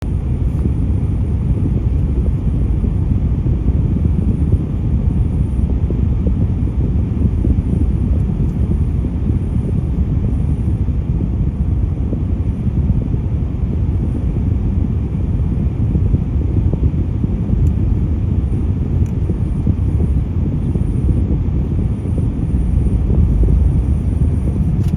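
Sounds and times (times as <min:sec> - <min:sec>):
road noise: 0:00.0 - 0:24.9
truck diesel engine rumble: 0:00.0 - 0:24.9.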